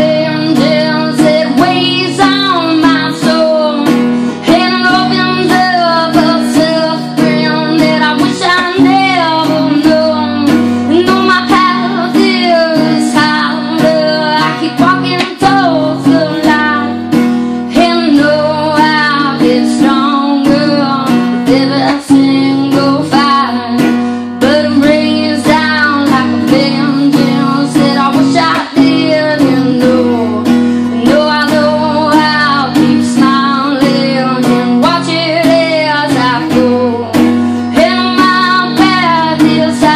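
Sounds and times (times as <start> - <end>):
acoustic guitar strumming chords: 0.0 - 39.9
woman singing: 0.0 - 39.9.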